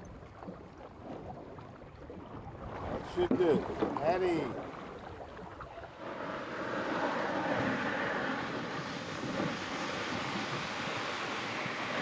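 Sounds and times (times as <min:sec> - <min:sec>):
water lapping on shore: 0:00.0 - 0:12.0
wind: 0:00.0 - 0:12.0.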